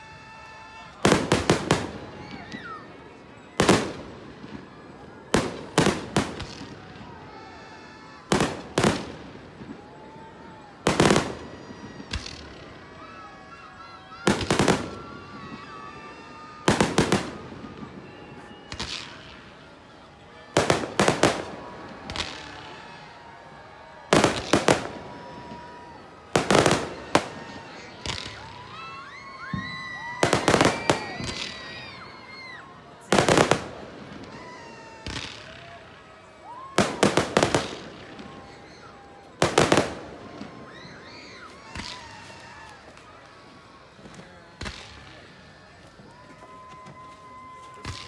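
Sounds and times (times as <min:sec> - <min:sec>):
fireworks bangs: 0:00.1 - 0:48.0.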